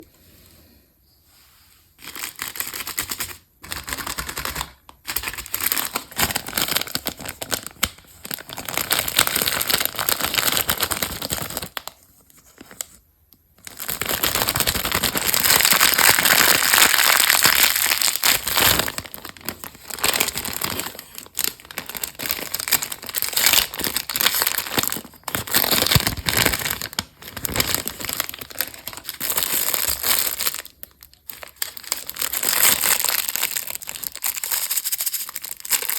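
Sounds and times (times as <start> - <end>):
candy wrappers crinkling: 2.0 - 35.9.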